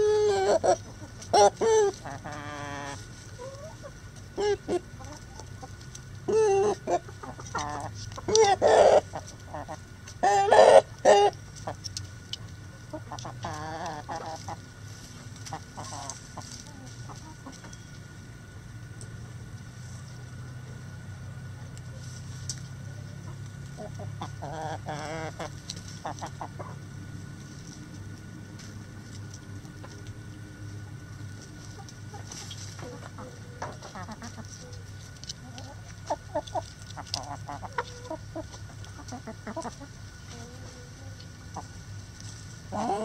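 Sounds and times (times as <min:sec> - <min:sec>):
chickens clucking and squawking: 0:00.0 - 0:43.0
steady low hum: 0:00.0 - 0:43.0.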